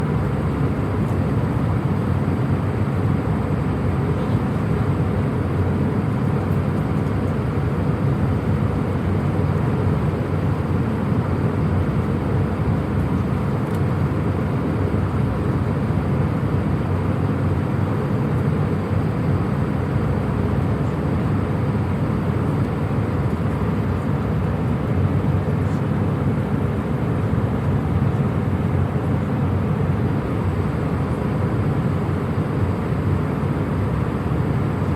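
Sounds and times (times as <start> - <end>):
jet cabin engine rumble: 0.0 - 34.9.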